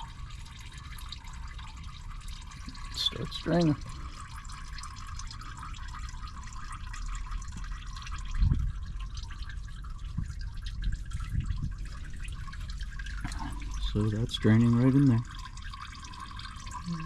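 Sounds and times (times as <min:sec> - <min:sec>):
oil trickling into container: 0:00.0 - 0:17.0.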